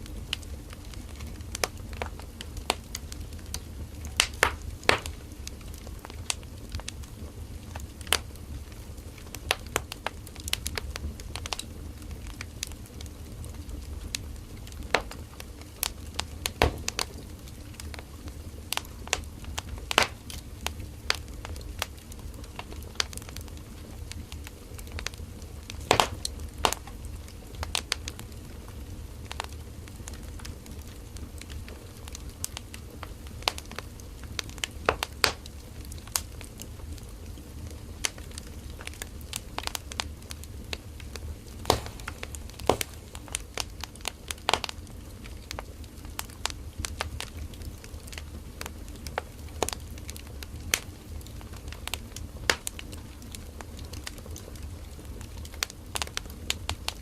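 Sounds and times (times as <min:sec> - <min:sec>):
firewood crackling and popping: 0:00.0 - 0:57.0
low rumble of flame: 0:00.0 - 0:57.0.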